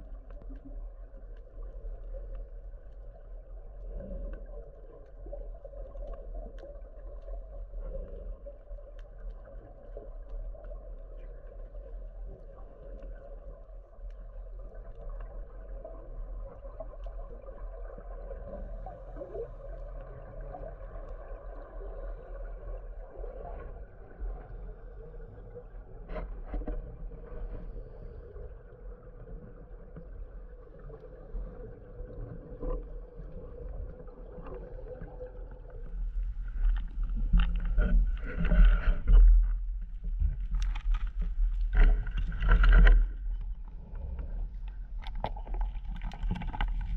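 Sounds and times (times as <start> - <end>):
underwater hum and rumble: 0.0 - 46.9.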